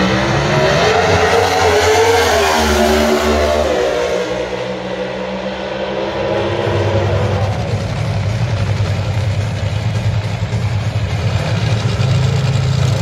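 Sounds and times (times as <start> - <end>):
drag racing car engine roar: 0.0 - 13.0.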